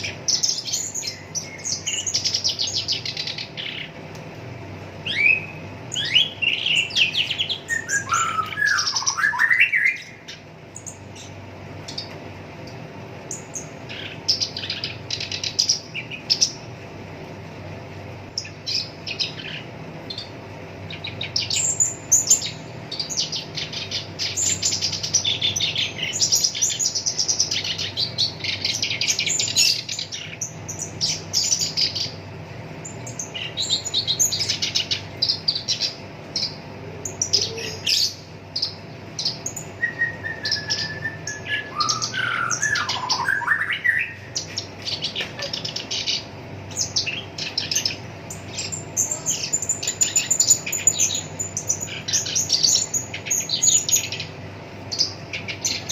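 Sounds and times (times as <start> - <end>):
faint steady hum: 0.0 - 55.9
warbler chattering song: 0.0 - 55.9.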